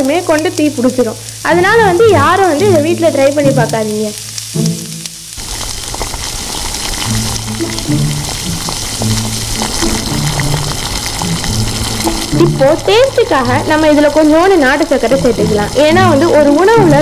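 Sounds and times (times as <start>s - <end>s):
background music low notes: 0.0s - 5.4s, 6.8s - 17.0s
food sizzling in a pan: 0.0s - 17.0s
wood fire crackles: 0.0s - 17.0s.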